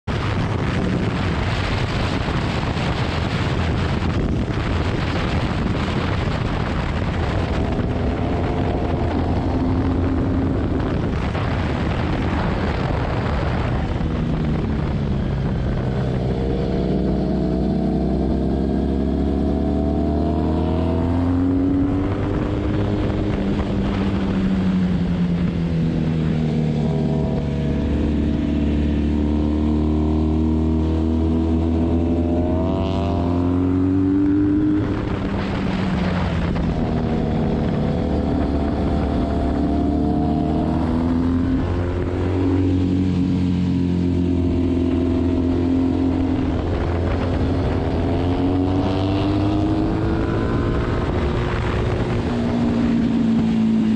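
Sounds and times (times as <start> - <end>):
wind rush on microphone: 0.0 - 53.9
motorcycle engine running: 0.1 - 53.9.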